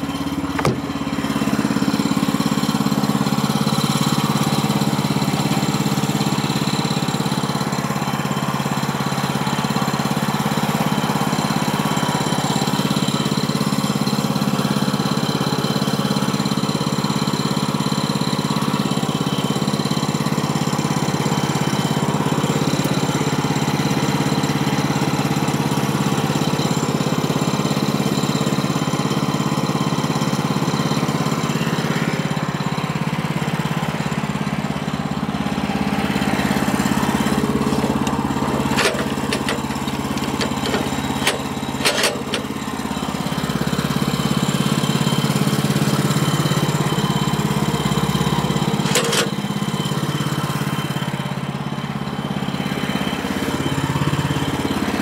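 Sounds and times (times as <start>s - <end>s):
sawmill gas engine running: 0.0s - 55.0s.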